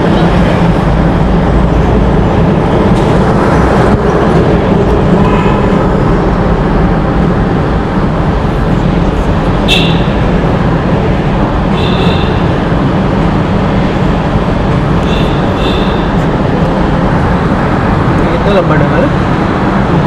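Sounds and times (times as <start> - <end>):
car rumbling through tunnel: 0.0 - 20.0.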